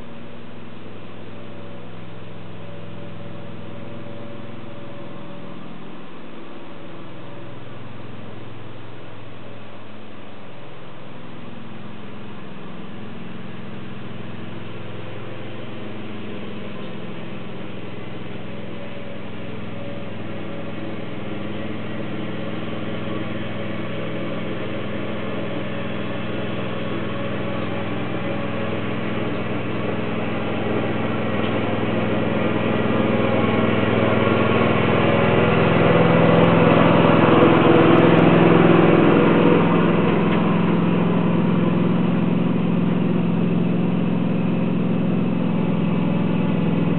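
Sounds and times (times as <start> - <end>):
small tractor engine running: 0.0 - 46.9.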